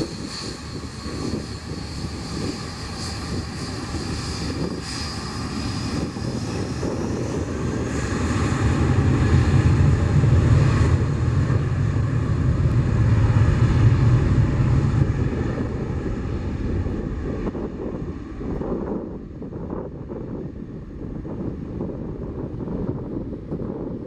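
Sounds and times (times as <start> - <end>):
airplane engines passing: 0.0 - 24.0.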